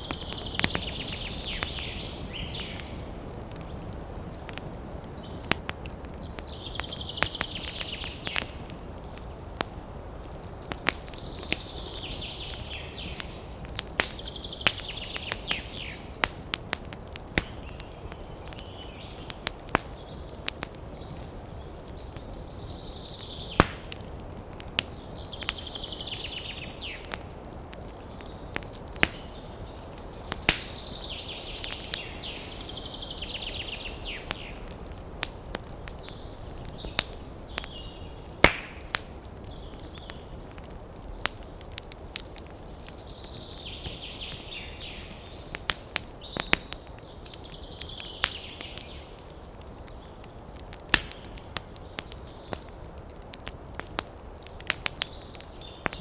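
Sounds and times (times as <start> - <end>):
birds chirping and trilling: 0.0 - 16.2, 17.6 - 24.0, 24.8 - 38.4, 39.2 - 53.9
campfire crackling and popping: 0.0 - 56.0.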